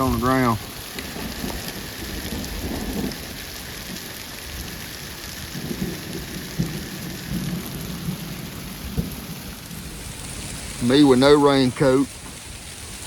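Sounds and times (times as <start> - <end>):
hailstones striking ground: 0.0 - 13.0.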